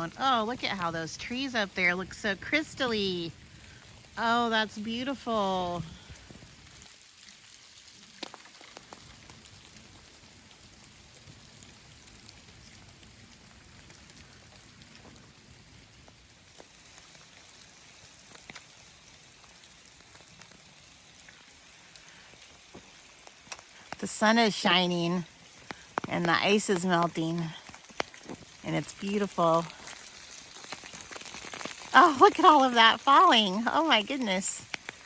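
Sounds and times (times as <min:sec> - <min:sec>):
falling ice ticks: 0:00.0 - 0:35.0
meltwater dripping patter: 0:00.0 - 0:35.0.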